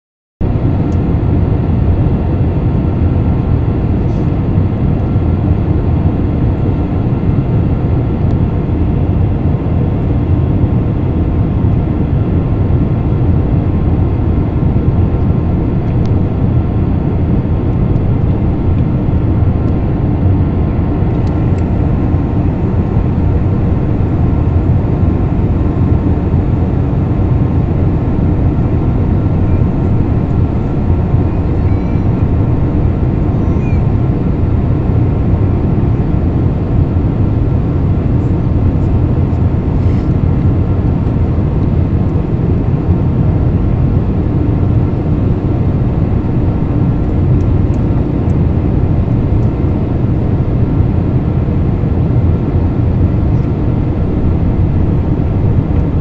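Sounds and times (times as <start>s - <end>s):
faint steady whine: 0.4s - 56.0s
jet airliner cabin drone: 0.4s - 56.0s.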